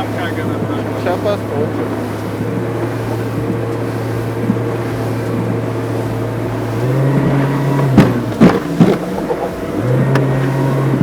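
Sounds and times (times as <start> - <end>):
outboard motor droning: 0.0 - 11.0.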